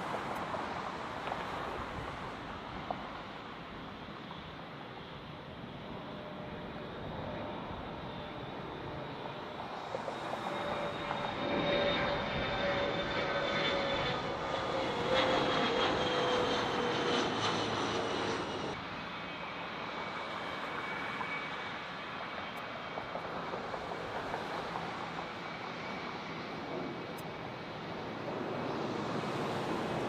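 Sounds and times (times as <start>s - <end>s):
jet engine whine: 0.0s - 30.0s
jet engines roaring: 0.0s - 30.0s
wind: 0.0s - 30.0s.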